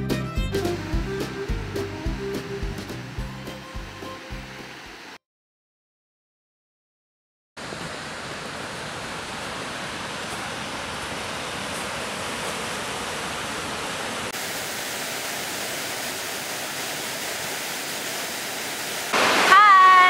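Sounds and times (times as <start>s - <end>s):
waterfall rushing: 0.5s - 5.2s, 7.6s - 20.0s.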